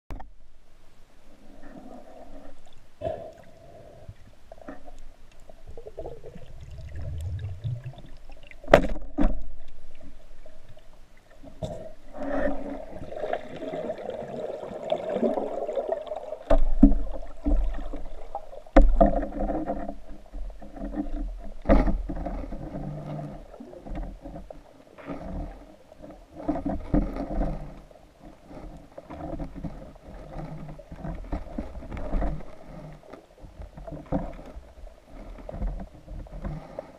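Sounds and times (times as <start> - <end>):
water sloshing and gurgling: 1.2 - 36.9.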